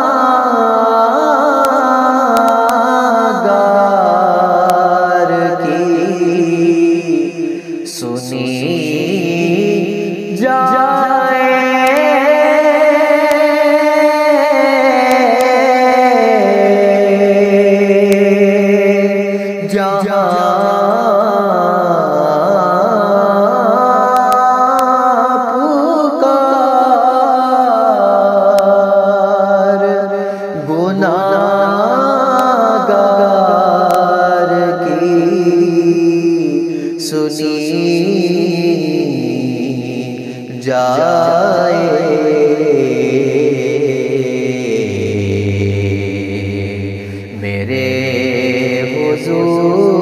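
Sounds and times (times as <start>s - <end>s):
man singing: 0.0s - 50.0s.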